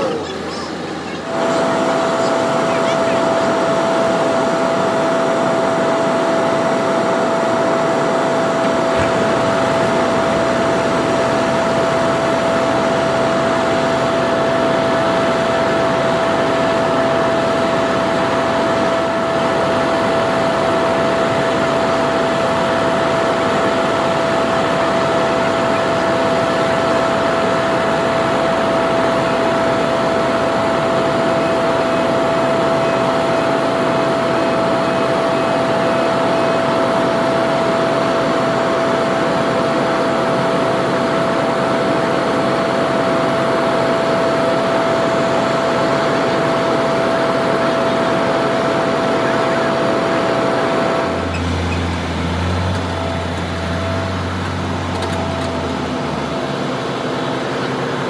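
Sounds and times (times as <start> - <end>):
hydraulic pump whine: 0.0 - 58.0
truck engine droning: 0.0 - 58.0.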